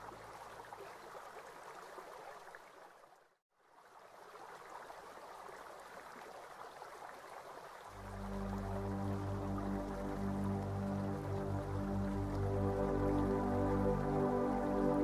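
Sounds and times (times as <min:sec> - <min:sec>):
faint flowing water: 0:00.0 - 0:15.0.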